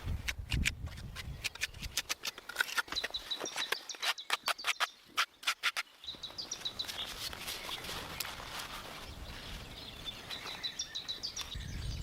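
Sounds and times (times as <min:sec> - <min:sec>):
bird chirping: 0:01.0 - 0:12.0.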